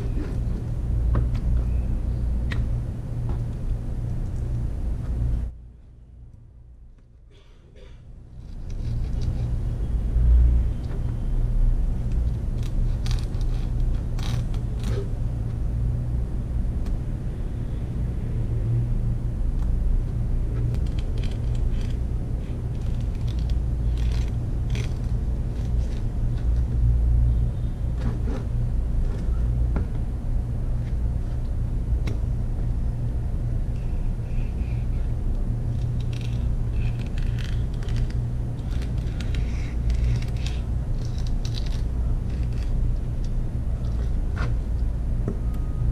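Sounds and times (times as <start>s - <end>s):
steady low rumble: 0.0s - 7.3s, 8.0s - 45.9s.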